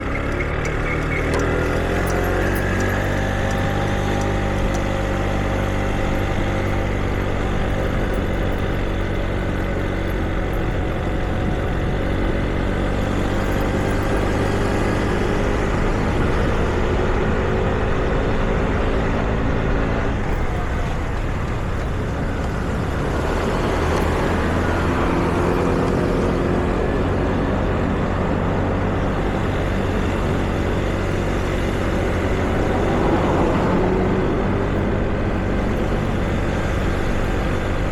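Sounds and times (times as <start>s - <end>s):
traffic rumble: 0.0s - 37.9s
vehicle engines running: 0.0s - 37.9s.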